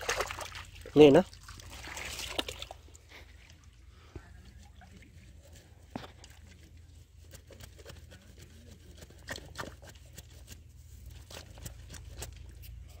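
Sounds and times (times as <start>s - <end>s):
hands squelching in wet mud: 0.0s - 12.4s.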